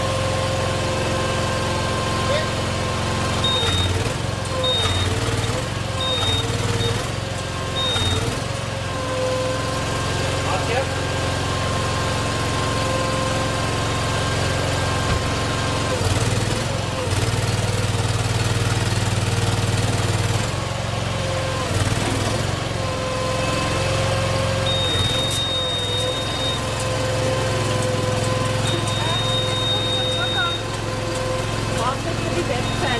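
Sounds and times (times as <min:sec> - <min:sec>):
small engine running: 0:00.0 - 0:32.9.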